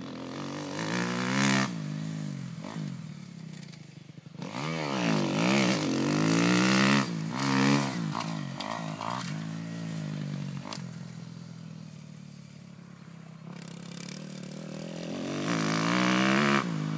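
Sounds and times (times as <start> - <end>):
dirt bike engine revving: 0.0 - 12.2, 13.4 - 16.9.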